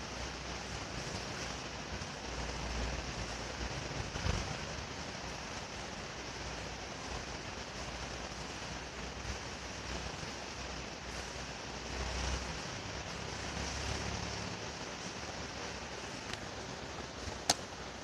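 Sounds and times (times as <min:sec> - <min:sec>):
ceiling fan air rushing: 0:00.0 - 0:18.0.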